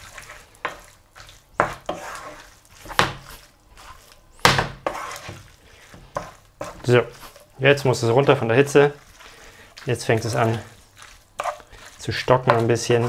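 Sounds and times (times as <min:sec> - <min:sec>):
spaghetti stirring and squelching: 0:00.0 - 0:13.0.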